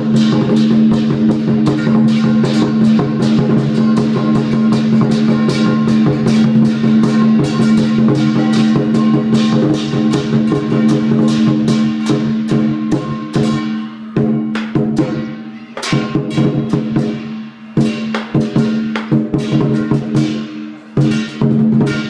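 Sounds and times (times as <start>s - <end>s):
cymbals clashing: 0.0s - 22.0s
drum beaten quickly: 0.0s - 22.0s.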